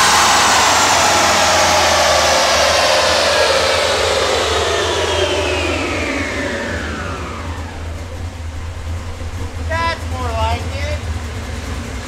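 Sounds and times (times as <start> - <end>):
whirring whine falling in pitch: 0.0 - 11.1
low rumble: 0.0 - 11.6.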